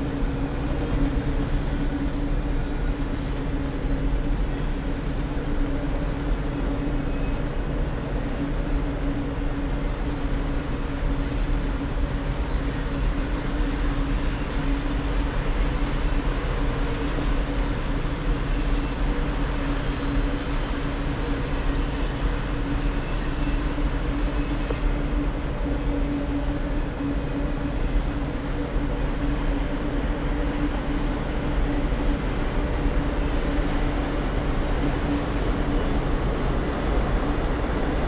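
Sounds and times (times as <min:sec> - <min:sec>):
train rumbling by: 0:00.0 - 0:38.0.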